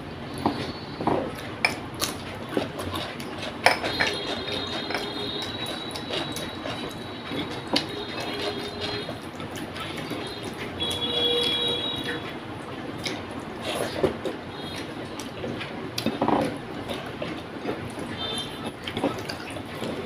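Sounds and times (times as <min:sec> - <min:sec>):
chewing: 0:00.4 - 0:20.0
fingers mixing food on plate: 0:00.4 - 0:20.0.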